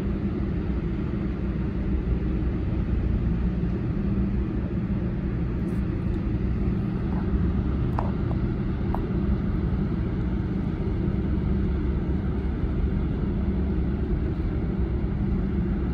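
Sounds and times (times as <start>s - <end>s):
low engine rumble: 0.0s - 15.9s.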